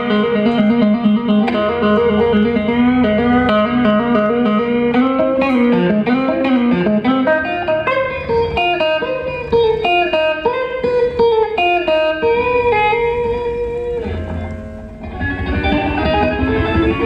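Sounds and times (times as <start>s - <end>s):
band playing: 0.0s - 17.0s
electric guitar lead with bends: 0.0s - 17.0s.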